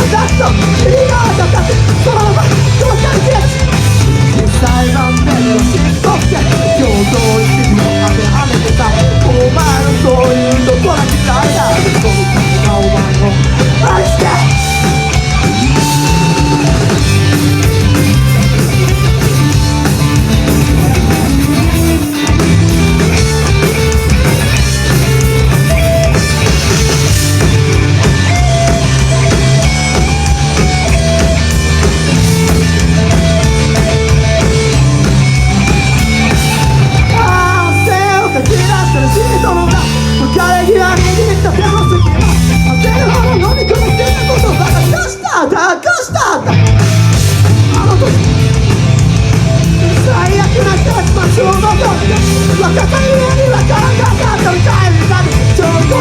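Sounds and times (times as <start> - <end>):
bass: 0.0 - 56.0
distorted guitars: 0.0 - 56.0
drum kit: 0.0 - 56.0.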